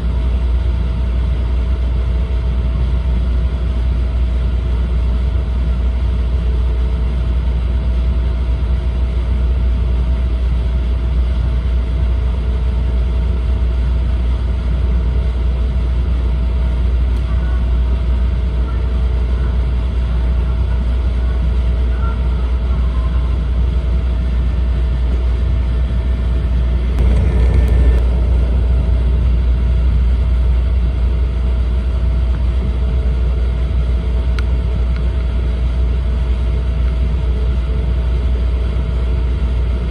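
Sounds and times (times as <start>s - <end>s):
mid-pitched hum: 0.0s - 39.9s
train rumbling at speed: 0.0s - 39.9s.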